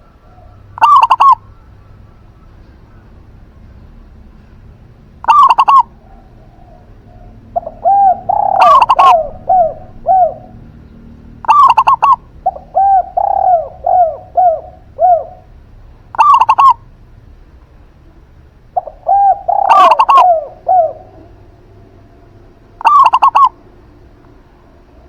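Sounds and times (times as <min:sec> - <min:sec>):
doves cooing: 0:00.0 - 0:25.0.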